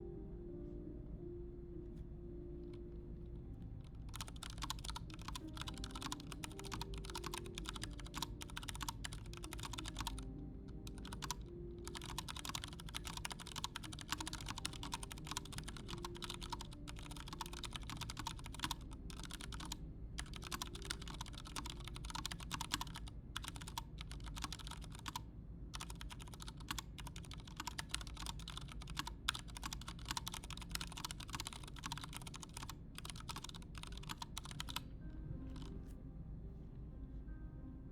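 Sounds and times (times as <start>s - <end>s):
mechanical keyboard typing: 3.8s - 25.2s, 25.8s - 34.9s, 35.5s - 35.7s.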